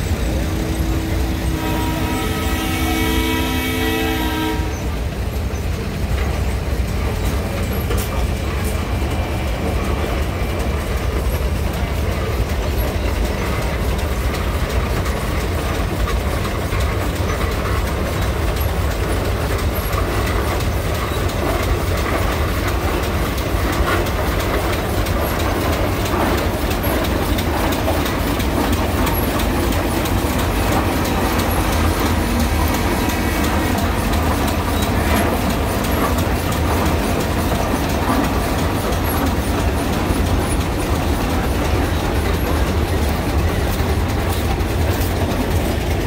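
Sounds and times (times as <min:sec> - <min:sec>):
steel tracks clanking: 0:00.0 - 0:46.0.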